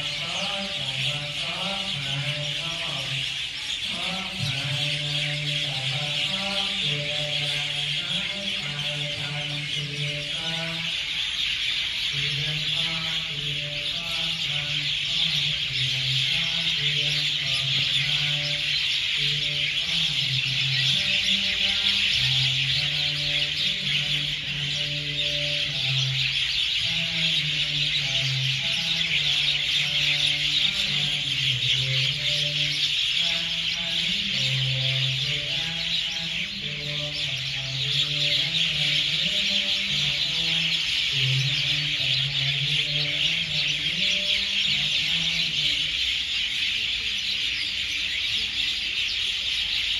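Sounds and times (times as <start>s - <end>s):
flock of birds chattering: 0.0s - 49.9s
low voices chanting: 0.0s - 49.9s.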